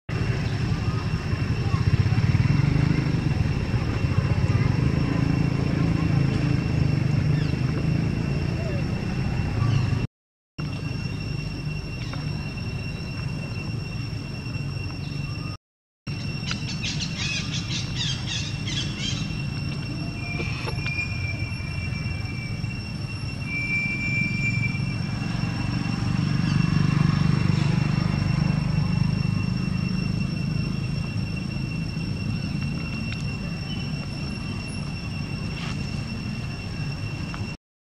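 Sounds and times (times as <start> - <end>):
high insect drone: 0.1 - 37.6.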